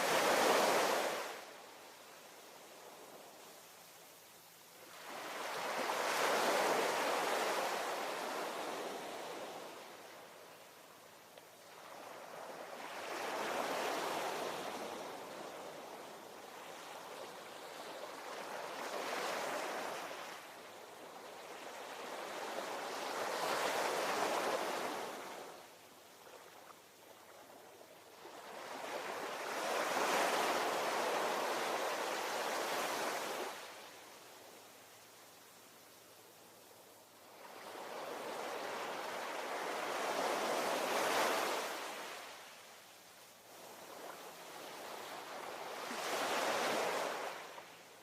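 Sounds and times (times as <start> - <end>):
ocean waves breaking on shore: 0.0 - 1.6, 4.8 - 10.4, 11.7 - 25.7, 26.3 - 34.1, 37.2 - 42.6, 43.6 - 47.9.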